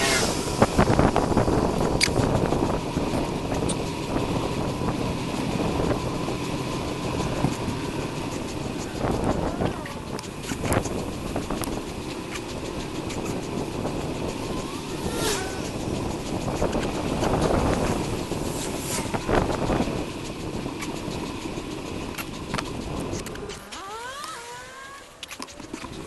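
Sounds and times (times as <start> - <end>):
vehicles whooshing past: 0.0 - 26.0
wind and road rumble: 0.0 - 26.0
bicycle clicks: 0.7 - 26.0.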